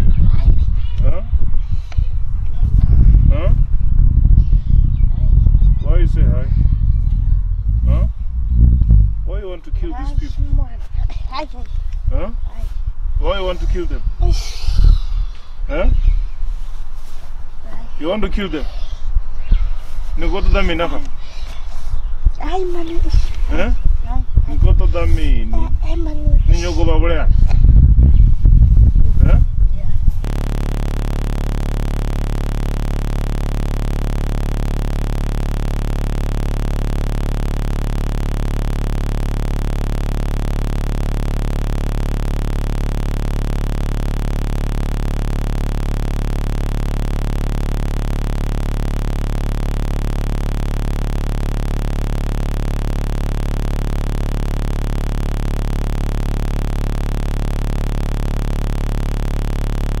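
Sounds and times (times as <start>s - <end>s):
constant hiss: 0.0s - 60.0s
electrical mains hum: 0.0s - 60.0s.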